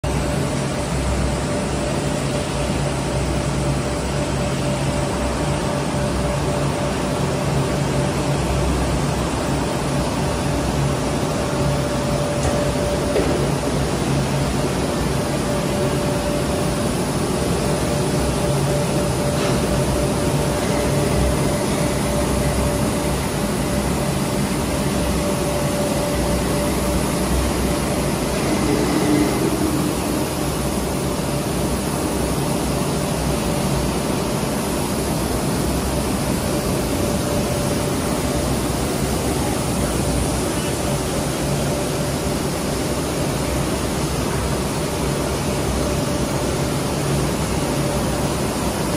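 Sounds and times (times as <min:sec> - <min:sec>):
mid-pitched hum: 0:00.1 - 0:44.5
coating machine running: 0:00.1 - 0:48.9.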